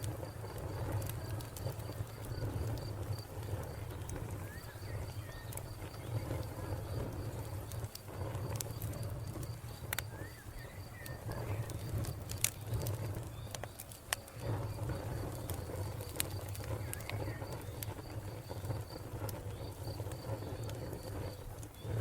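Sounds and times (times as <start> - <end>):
cricket chirping: 0.0 - 22.0
wood fire crackling and popping: 0.0 - 22.0.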